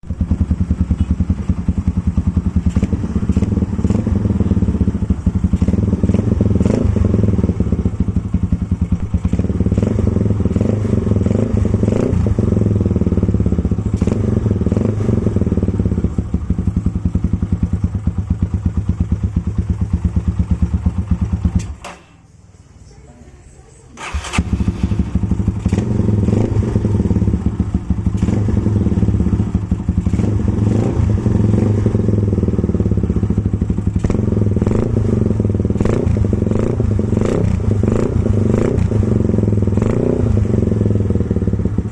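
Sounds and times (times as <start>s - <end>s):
motorcycle engine thumping exhaust: 0.0s - 22.2s, 24.2s - 41.9s.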